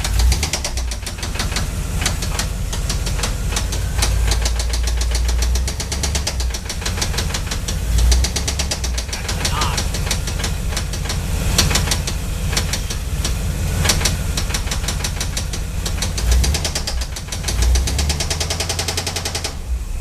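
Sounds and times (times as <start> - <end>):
car engine with rod knock: 0.0 - 19.6.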